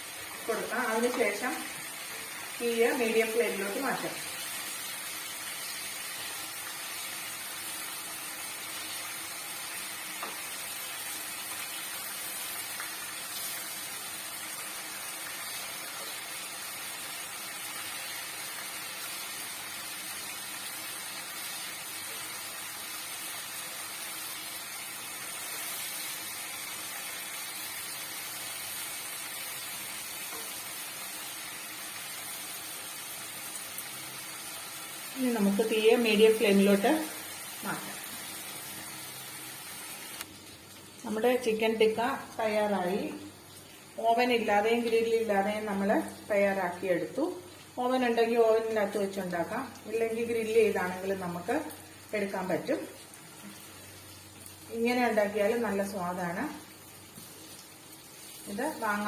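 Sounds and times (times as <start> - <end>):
meat sizzling in a pan: 0.0 - 59.0.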